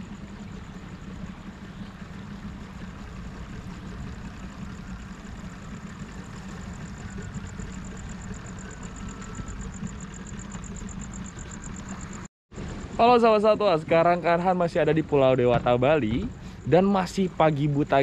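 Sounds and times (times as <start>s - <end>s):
fast high-pitched pulsing: 0.0s - 15.4s
engine idling with low hum: 0.0s - 18.0s.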